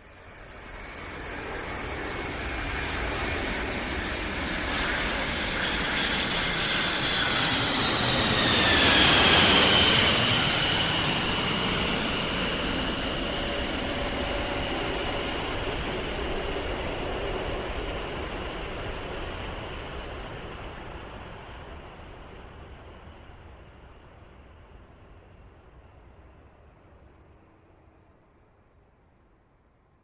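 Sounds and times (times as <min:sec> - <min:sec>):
jet airliner passing overhead: 0:00.0 - 0:28.4.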